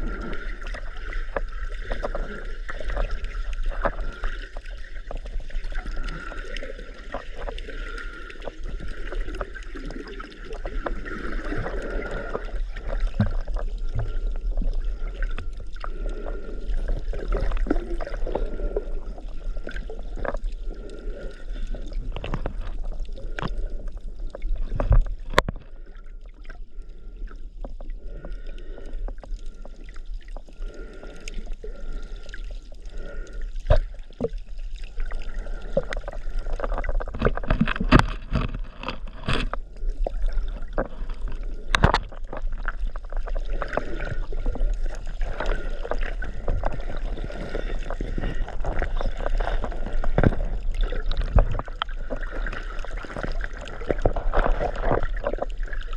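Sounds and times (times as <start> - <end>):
water splashing and sloshing: 0.0 - 55.9.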